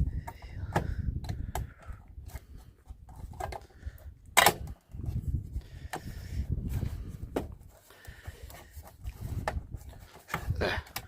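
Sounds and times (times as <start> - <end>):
low rumbling handling noise: 0.0 - 11.0.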